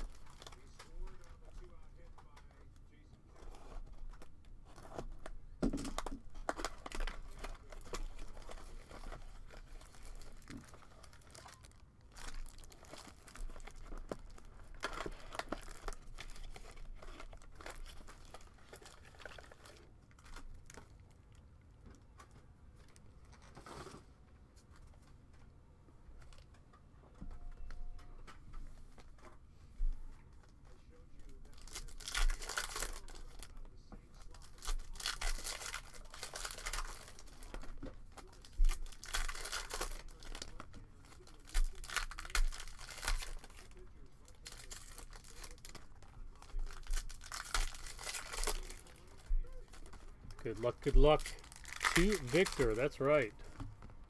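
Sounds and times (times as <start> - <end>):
foil wrappers crinkling and tearing: 0.0 - 21.1, 31.4 - 53.6.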